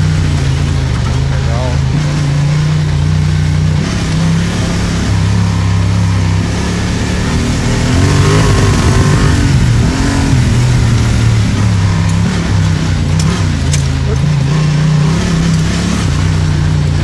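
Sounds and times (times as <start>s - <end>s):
motorcycle engine revving: 0.0s - 17.0s
steady rushing noise: 0.0s - 17.0s.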